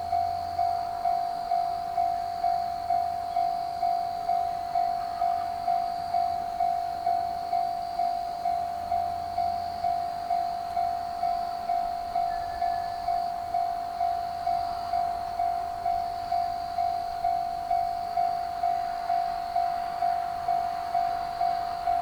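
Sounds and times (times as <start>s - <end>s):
level crossing warning bell: 0.0s - 22.0s.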